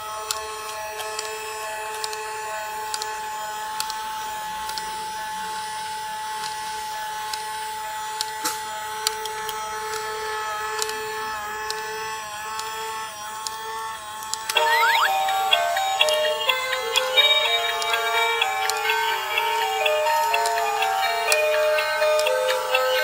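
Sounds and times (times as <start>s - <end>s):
toy motor whine: 0.0s - 23.0s.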